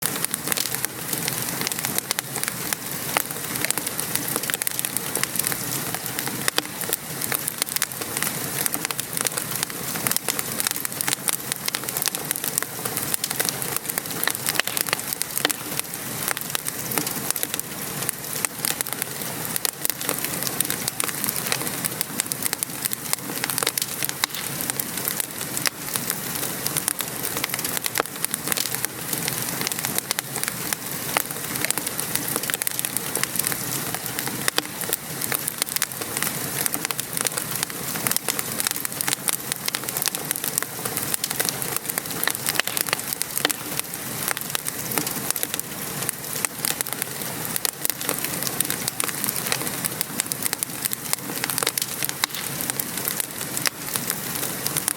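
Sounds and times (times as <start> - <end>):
fire crackling: 0.0 - 54.9
rain pattering: 0.0 - 54.9.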